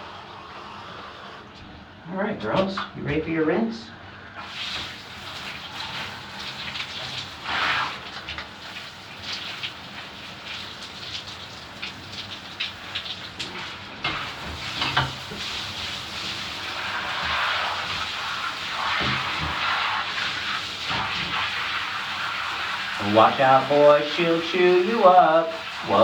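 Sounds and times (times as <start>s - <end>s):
water spraying from sprayer: 4.4s - 26.0s.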